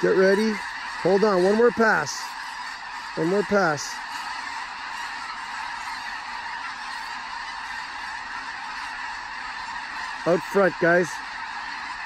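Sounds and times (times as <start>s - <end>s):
flock of geese calling: 0.0s - 12.0s.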